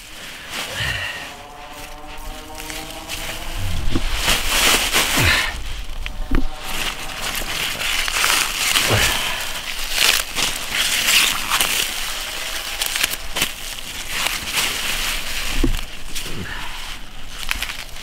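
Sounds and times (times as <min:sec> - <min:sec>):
leaves rustling: 0:00.0 - 0:18.0
low bumps: 0:00.0 - 0:18.0
crisp stems snapping: 0:00.6 - 0:18.0.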